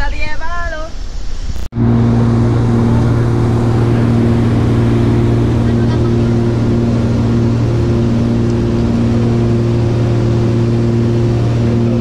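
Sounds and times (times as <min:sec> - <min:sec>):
small aircraft engine drone: 0:00.9 - 0:12.0.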